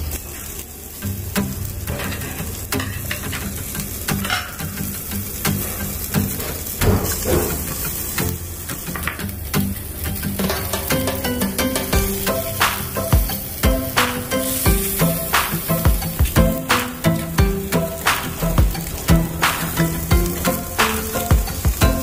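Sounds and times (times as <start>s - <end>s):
pork sizzling on a grill: 0.0s - 22.0s
background music: 3.7s - 22.0s.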